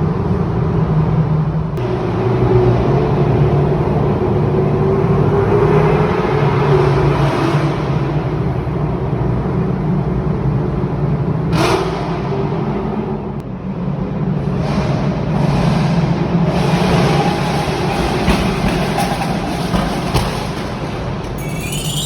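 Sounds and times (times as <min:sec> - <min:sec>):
sports car engine echoing in tunnel: 0:00.0 - 0:21.3.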